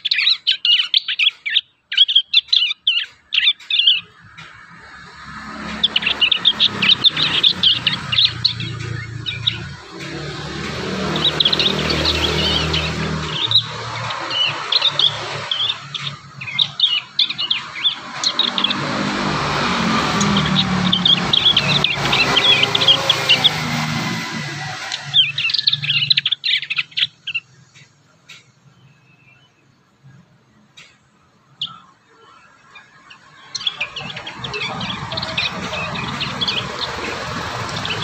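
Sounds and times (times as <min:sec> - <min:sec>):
birds twittering chirps: 0:00.0 - 0:38.0.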